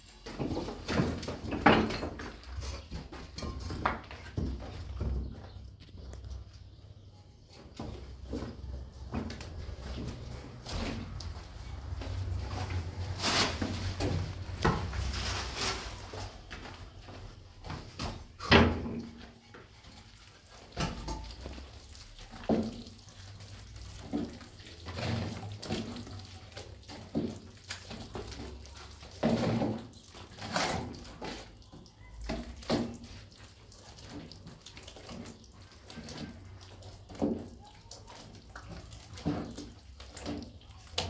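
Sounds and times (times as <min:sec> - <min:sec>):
wet plaster sloshing and squelching: 0:00.0 - 0:41.0.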